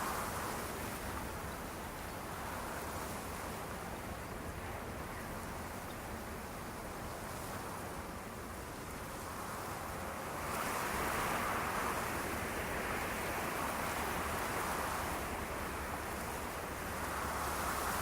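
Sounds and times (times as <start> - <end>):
ocean waves washing on shore: 0.0 - 18.0.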